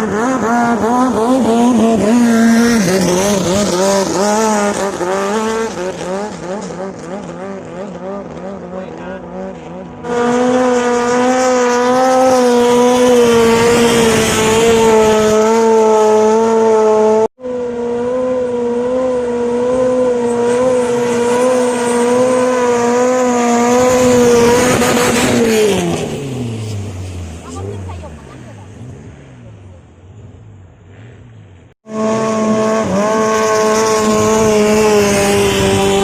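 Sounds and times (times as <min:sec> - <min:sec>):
boat engine droning at high revs: 0:00.0 - 0:36.0.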